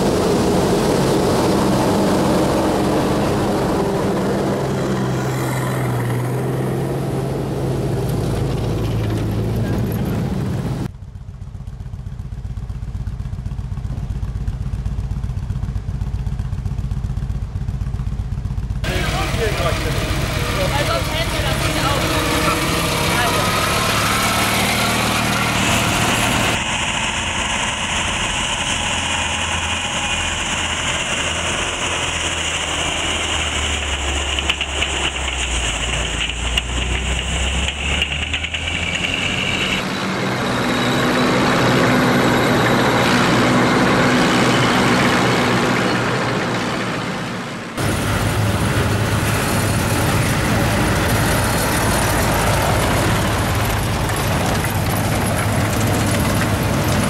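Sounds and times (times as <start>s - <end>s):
half-track engines driving past: 0.0s - 10.9s, 13.2s - 57.0s.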